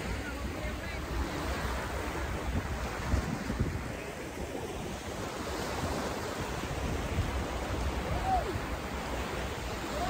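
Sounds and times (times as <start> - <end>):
waves washing onto beach: 0.0 - 10.0.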